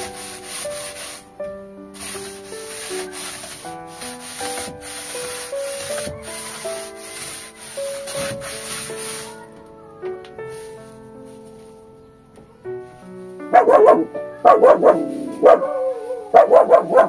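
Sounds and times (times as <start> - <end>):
husk scrubbing bamboo floor: 0.0 - 12.0, 12.8 - 17.0
gentle background melody: 0.0 - 17.0.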